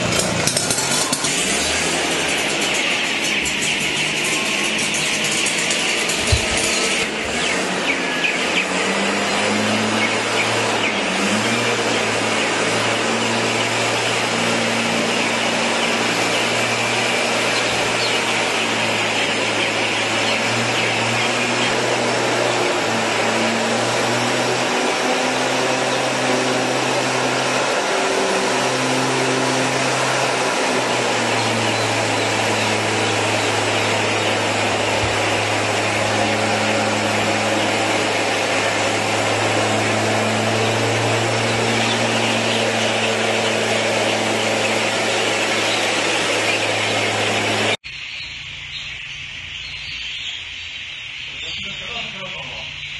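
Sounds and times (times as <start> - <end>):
low motor hum: 0.0 - 47.8.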